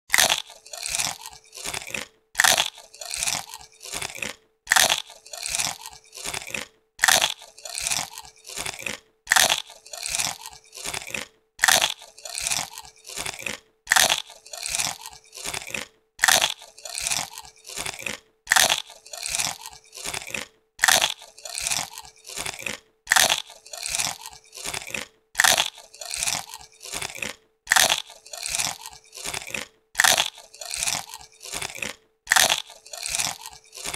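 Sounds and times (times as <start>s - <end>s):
person crunching potato chips: 0.1s - 33.9s.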